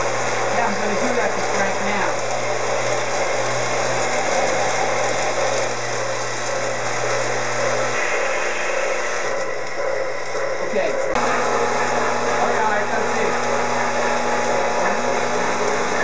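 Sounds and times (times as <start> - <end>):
model train whirring: 0.0 - 16.0.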